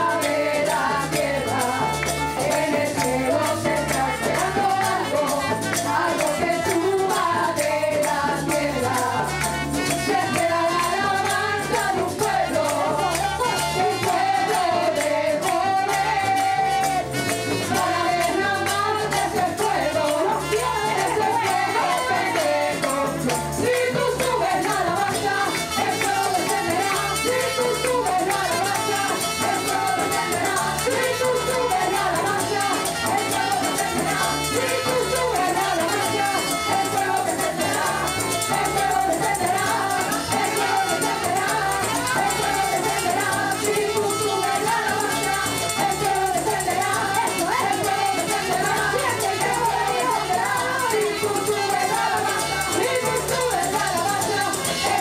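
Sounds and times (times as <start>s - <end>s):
latin band playing: 0.0s - 55.0s
rattling percussion: 0.0s - 55.0s
women singing together: 0.0s - 55.0s.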